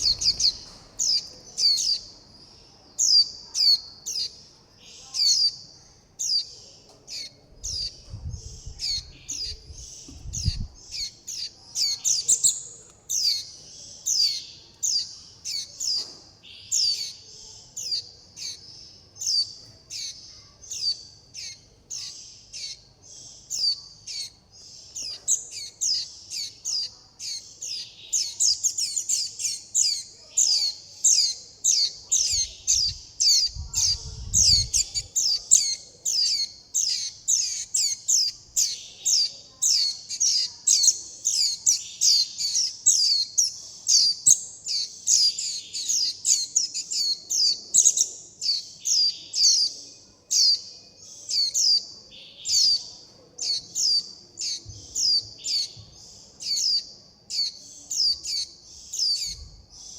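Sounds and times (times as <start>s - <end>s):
fledgling bird chirping: 0.0s - 59.9s.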